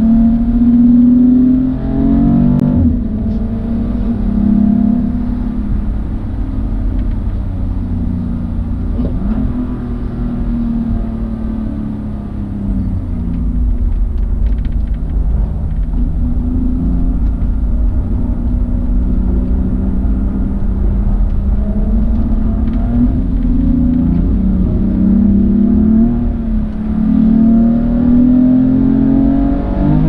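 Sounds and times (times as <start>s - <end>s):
car engine accelerating: 0.0s - 30.0s
heavy low rumble: 0.0s - 30.0s.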